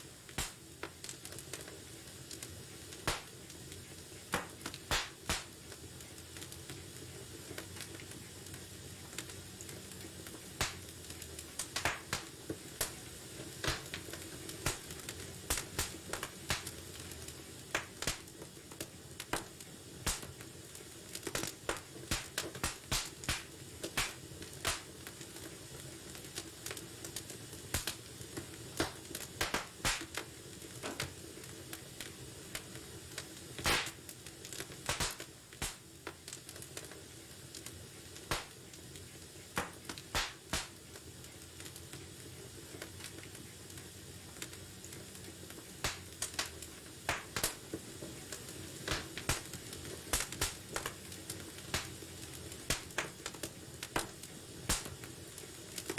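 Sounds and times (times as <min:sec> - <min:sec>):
fire hissing: 0:00.0 - 0:55.9
logs crackling and popping: 0:00.0 - 0:55.9.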